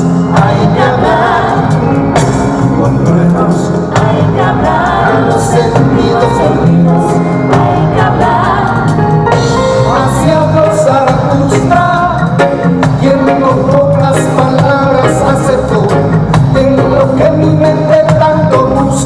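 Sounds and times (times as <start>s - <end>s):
lead vocal singing: 0.0s - 19.0s
reggae band playing live: 0.0s - 19.0s.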